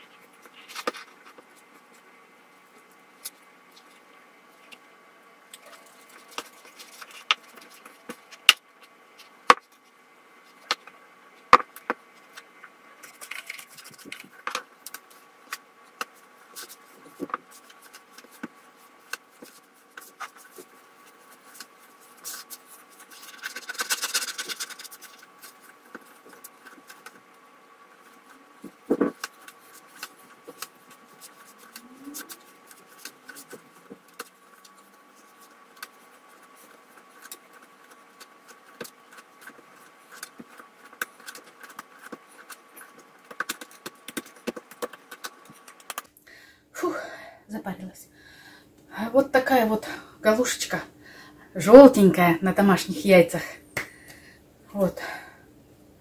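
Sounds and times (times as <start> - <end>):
hands kneading dough: 0.0 - 46.2
faint steady hum: 0.0 - 56.0.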